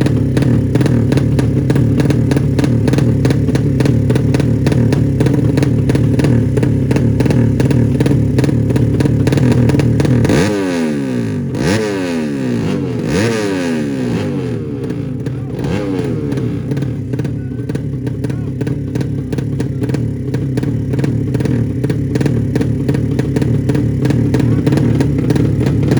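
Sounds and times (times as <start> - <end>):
motorcycle engine running: 0.0 - 25.9
motorcycle throttle blips: 0.0 - 25.9.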